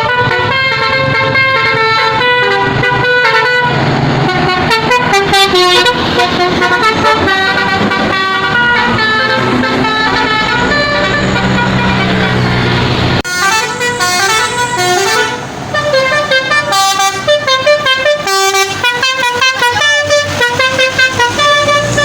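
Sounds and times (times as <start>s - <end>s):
multi-tone truck horn playing a tune: 0.0s - 22.0s
truck engine running: 0.0s - 22.0s.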